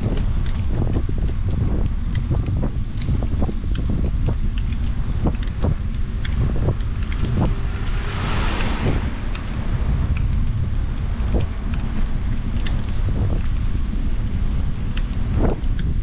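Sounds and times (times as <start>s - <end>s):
bicycle clicks and rattles: 0.0s - 16.0s
wind buffeting microphone: 0.0s - 16.0s.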